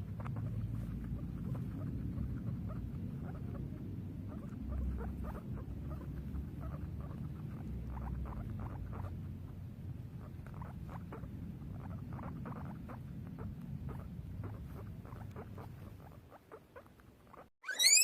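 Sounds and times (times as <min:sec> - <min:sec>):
low steady rumble: 0:00.0 - 0:17.3
guinea pig squeaking: 0:00.0 - 0:18.0.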